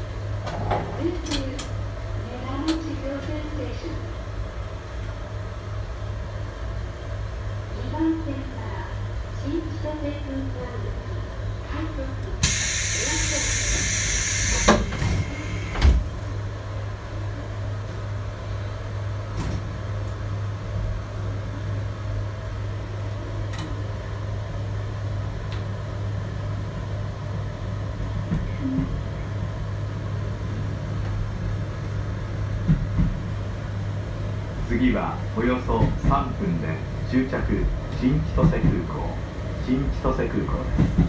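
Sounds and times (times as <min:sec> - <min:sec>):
electric train hum and rolling: 0:00.0 - 0:41.0.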